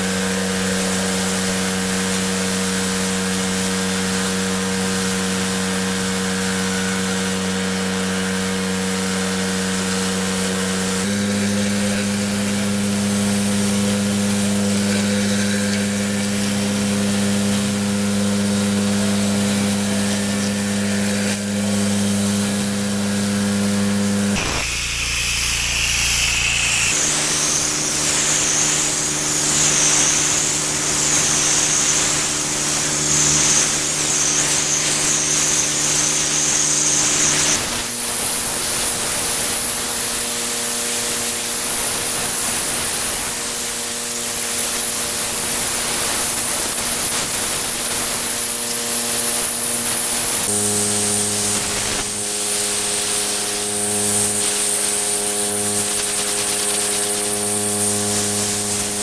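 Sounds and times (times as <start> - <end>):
pressure washer machine hum: 0.0 - 59.0
water jet hissing: 9.8 - 59.0.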